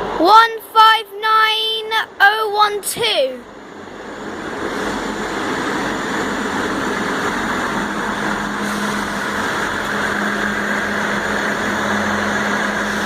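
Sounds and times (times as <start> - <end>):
train diesel engines running: 0.0 - 13.0.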